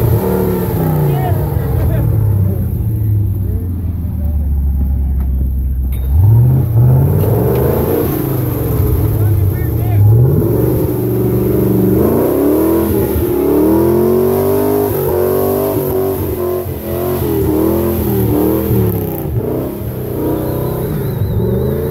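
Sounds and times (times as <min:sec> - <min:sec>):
buggy engine revving: 0:00.0 - 0:21.9.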